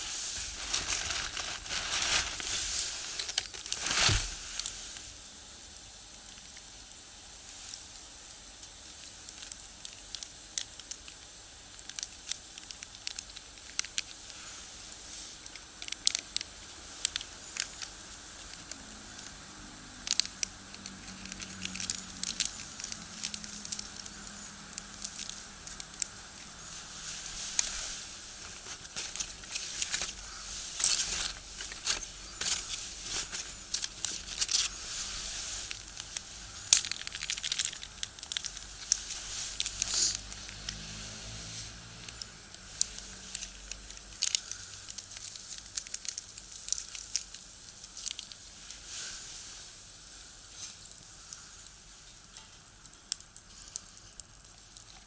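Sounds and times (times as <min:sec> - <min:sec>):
firewood crackling and popping: 0:00.0 - 0:55.0
steady fire hiss: 0:00.0 - 0:55.0.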